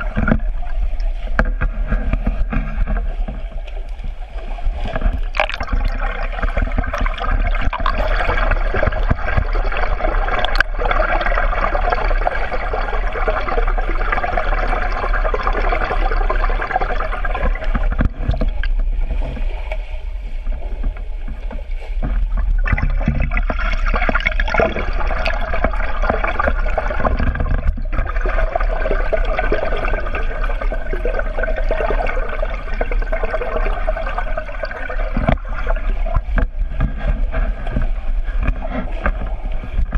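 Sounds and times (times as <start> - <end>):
underwater churning and bubbling: 0.0 - 39.9.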